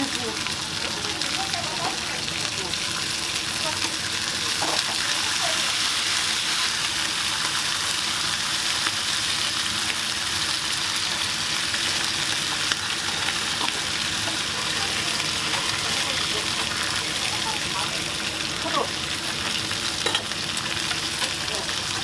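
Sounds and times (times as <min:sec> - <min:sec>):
food sizzling on a griddle: 0:00.0 - 0:22.0.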